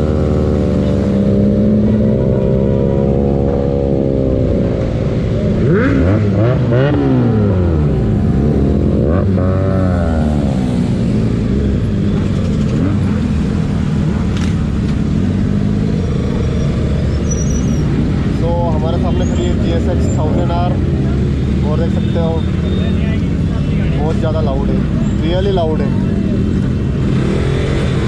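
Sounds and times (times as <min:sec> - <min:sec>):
superbike engines revving: 0:00.0 - 0:28.0.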